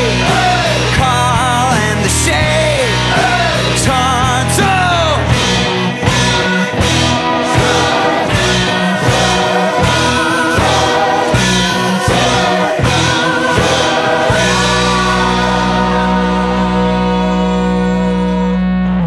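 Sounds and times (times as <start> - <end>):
song with sung vocals: 0.0 - 19.0.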